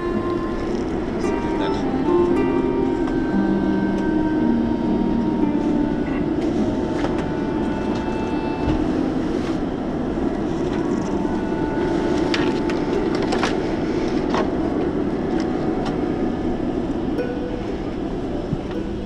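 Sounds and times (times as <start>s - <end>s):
airplane cabin hum: 0.0s - 19.0s.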